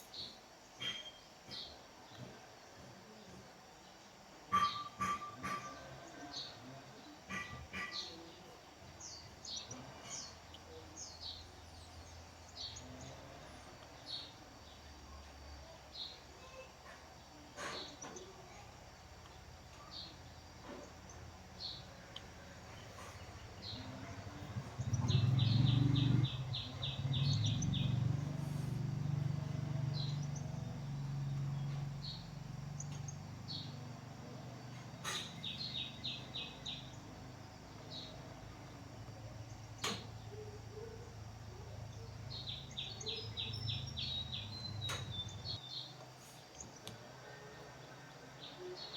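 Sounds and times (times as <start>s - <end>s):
small bird chirping: 6.4s - 46.9s.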